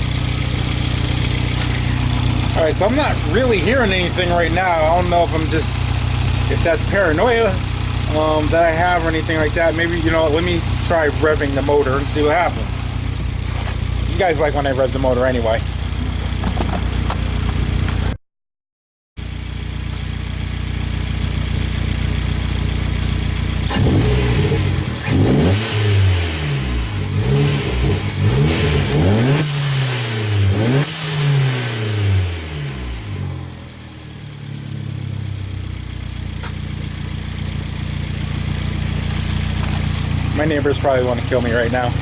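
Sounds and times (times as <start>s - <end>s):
car engine idling and revving: 0.0s - 18.2s, 19.2s - 42.0s.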